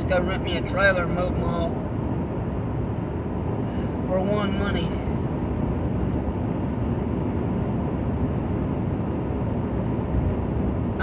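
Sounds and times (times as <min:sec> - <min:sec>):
road noise: 0:00.0 - 0:11.0
truck engine: 0:00.0 - 0:11.0.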